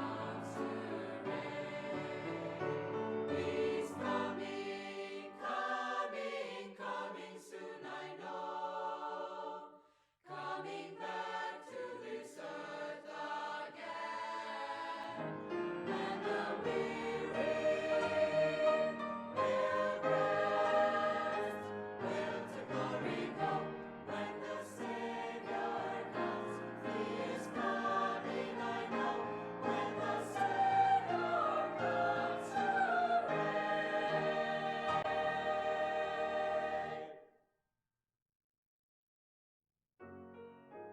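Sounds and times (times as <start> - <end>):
choir singing with accompaniment: 0.0 - 37.2.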